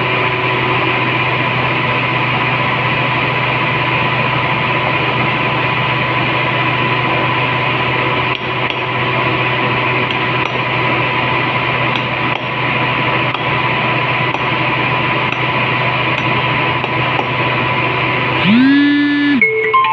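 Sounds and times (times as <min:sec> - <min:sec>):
loud hum and hiss: 0:00.0 - 0:19.5.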